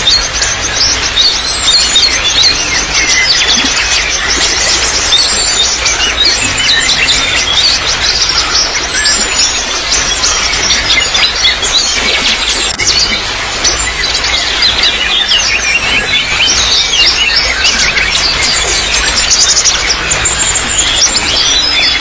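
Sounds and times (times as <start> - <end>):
small birds chirping: 0.0 - 22.0
water trickling: 0.0 - 22.0.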